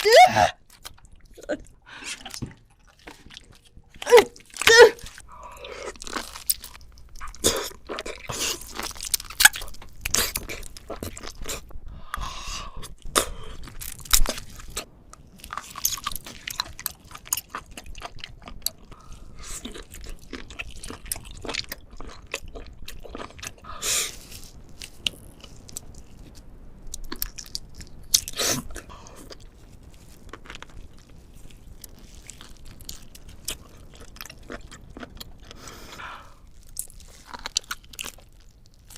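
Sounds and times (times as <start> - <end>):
person chewing crisp food: 0.6 - 38.9.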